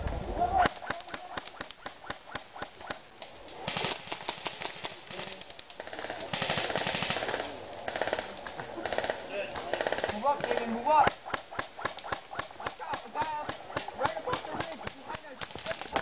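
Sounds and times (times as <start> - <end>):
airsoft guns firing: 0.6 - 16.0.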